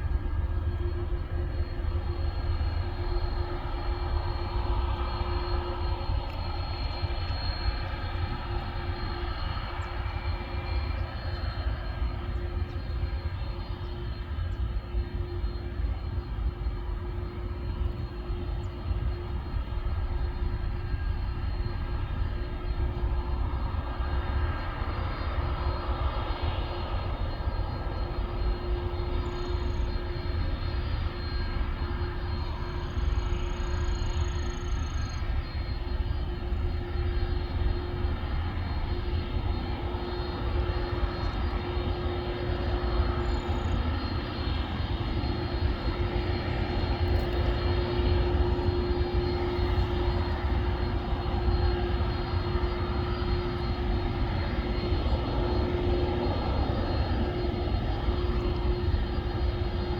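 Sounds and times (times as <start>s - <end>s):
airliner engines rumbling and whining: 0.0s - 59.9s.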